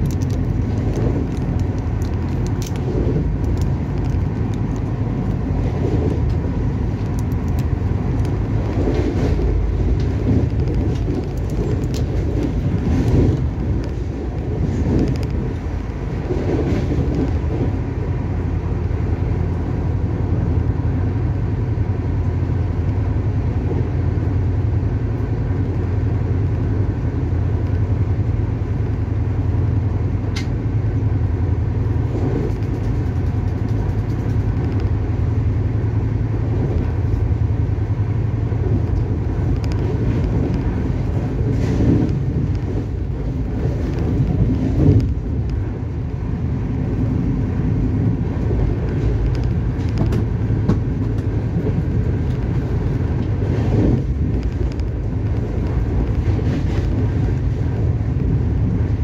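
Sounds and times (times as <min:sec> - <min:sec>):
train coach rumble: 0:00.0 - 0:59.0.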